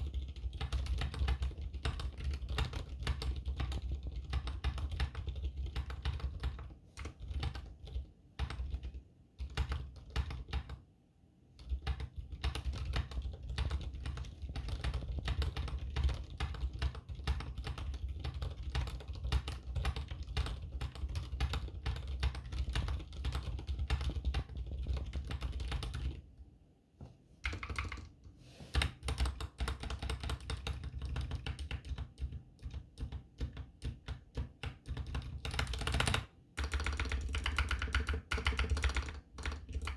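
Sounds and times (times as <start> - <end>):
muffled mechanical keyboard typing: 0.0 - 10.8, 11.6 - 26.3, 27.4 - 39.9.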